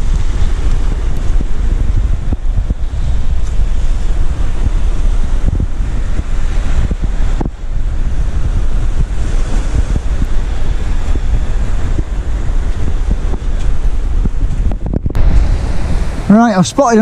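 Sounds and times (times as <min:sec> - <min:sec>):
surf washing on shore: 0:00.0 - 0:17.0
wind buffeting microphone: 0:00.0 - 0:17.0.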